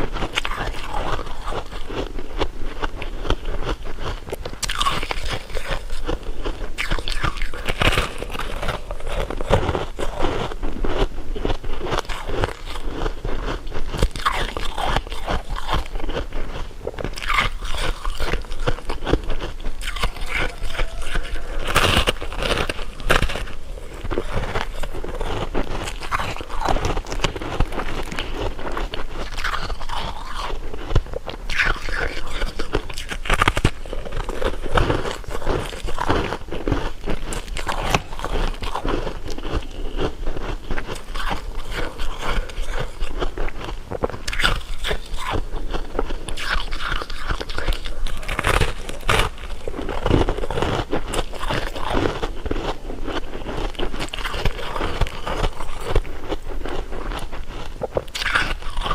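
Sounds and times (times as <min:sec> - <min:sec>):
chewing and crunching candy: 0:00.0 - 0:58.9.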